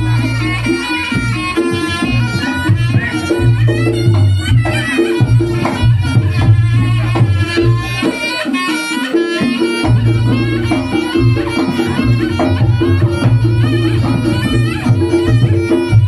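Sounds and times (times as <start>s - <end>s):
shrill reedy shawm melody: 0.0s - 16.0s
steady drum beat: 0.0s - 16.0s.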